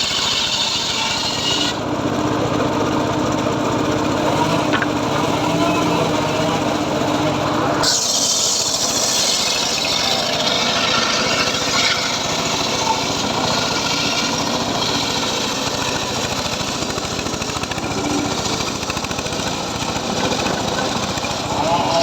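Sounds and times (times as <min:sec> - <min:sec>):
small engine circular saw running: 0:00.0 - 0:22.0.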